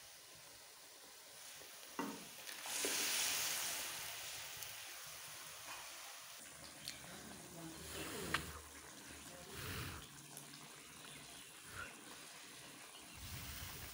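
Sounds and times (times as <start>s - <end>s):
liquid sizzling in a pan: 0.0s - 13.9s.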